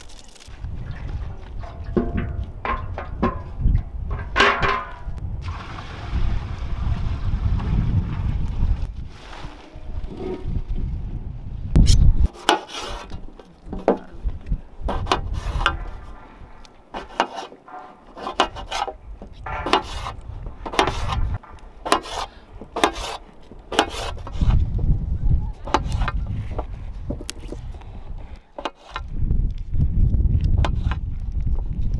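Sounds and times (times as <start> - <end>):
wind rumbling on microphone: 0.0 - 12.3, 12.9 - 16.9, 18.1 - 31.9.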